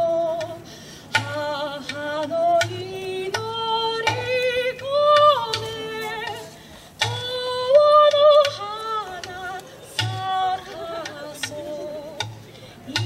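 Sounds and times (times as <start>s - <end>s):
woman singing slow melody: 0.0s - 12.3s.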